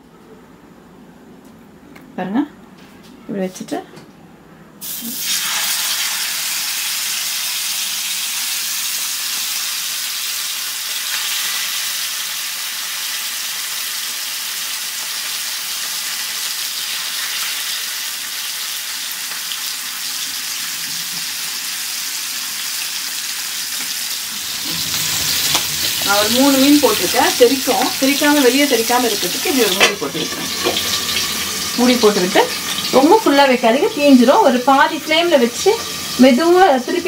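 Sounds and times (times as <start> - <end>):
fish sizzling in hot oil: 4.8 - 37.0.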